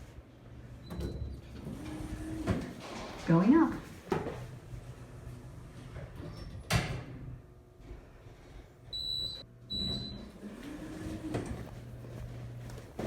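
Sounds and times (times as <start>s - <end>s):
elevator low hum: 0.0s - 13.0s.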